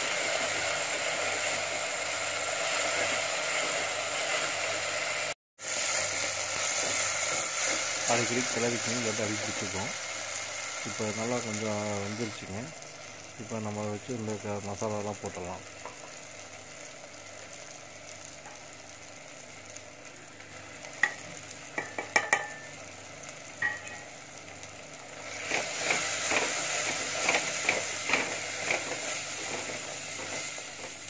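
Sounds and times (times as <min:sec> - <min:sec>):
masala sizzling in oil: 0:00.0 - 0:31.0.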